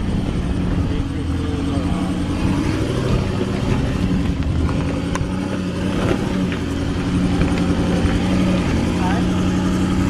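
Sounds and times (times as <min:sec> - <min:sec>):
suv engine running: 0:00.0 - 0:10.0.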